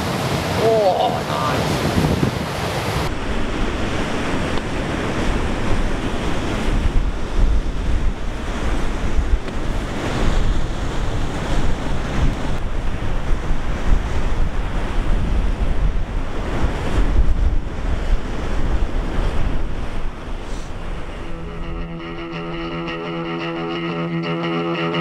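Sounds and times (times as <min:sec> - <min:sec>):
ocean surf breaking: 0:00.0 - 0:25.0
wind buffeting microphone: 0:01.4 - 0:23.9.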